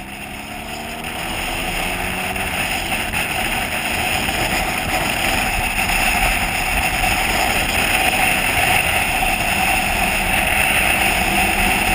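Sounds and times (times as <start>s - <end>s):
motorcycle engine cruising: 0.0s - 11.9s.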